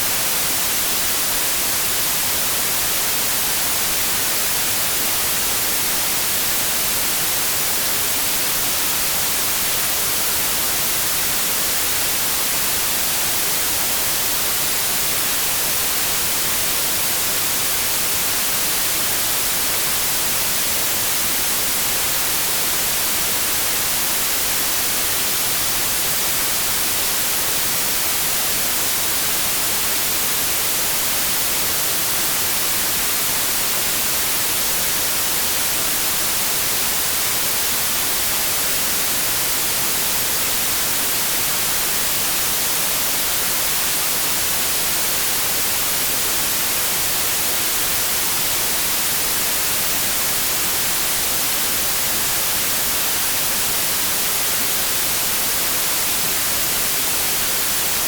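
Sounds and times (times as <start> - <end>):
white noise static hiss: 0.0 - 58.0.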